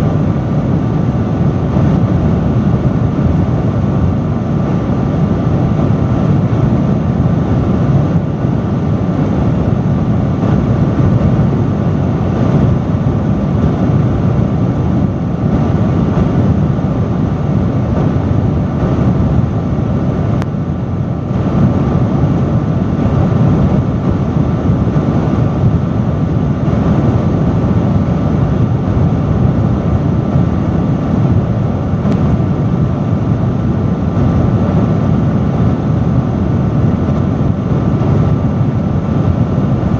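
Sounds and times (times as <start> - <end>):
faint steady hum: 0.0 - 39.9
industrial fan air rush: 0.0 - 39.9.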